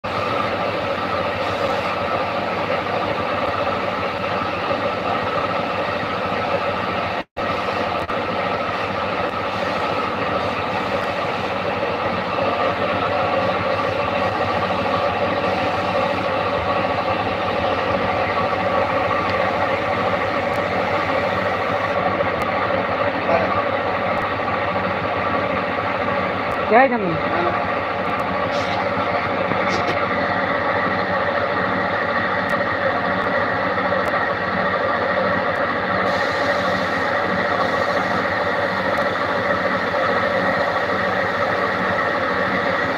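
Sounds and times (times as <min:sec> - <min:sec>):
workshop machinery drone: 0:00.0 - 0:42.9.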